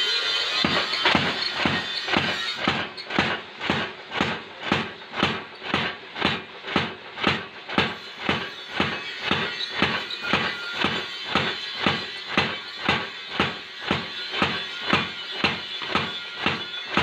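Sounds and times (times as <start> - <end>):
hammer blows on metal: 0.0 - 17.0
machine whine: 0.0 - 17.0.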